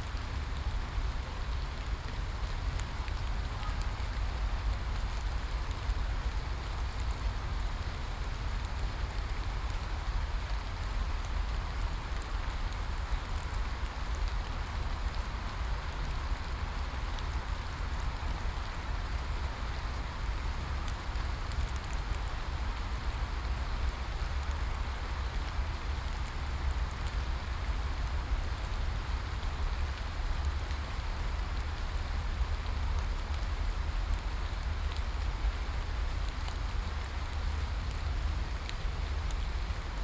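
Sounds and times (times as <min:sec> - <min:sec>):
steady rain falling: 0:00.0 - 0:40.0
raindrops ticking: 0:07.8 - 0:40.0.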